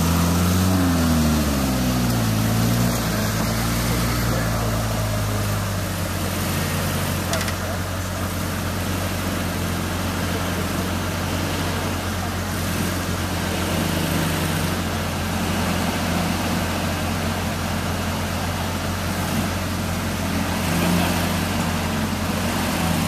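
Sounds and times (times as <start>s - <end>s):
truck engine running at low revs: 0.0s - 23.0s.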